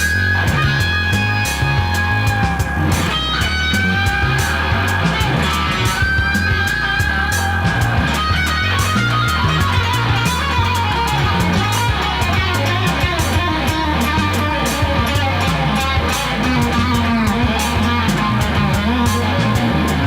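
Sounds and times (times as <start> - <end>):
electric guitar: 0.0 - 20.0
low bass notes: 0.0 - 20.0.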